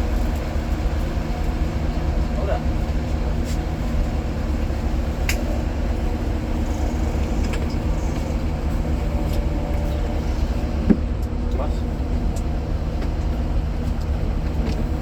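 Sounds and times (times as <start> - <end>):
coach engine drone: 0.0 - 15.0.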